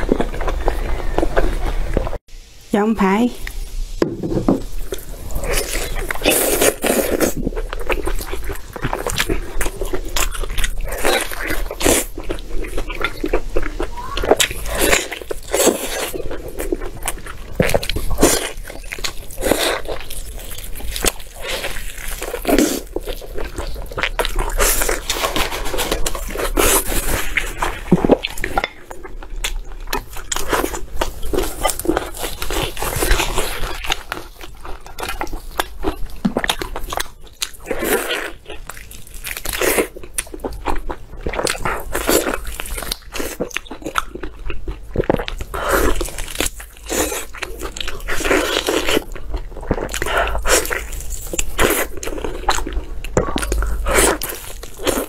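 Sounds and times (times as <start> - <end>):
wet biting and chewing: 5.4 - 55.0.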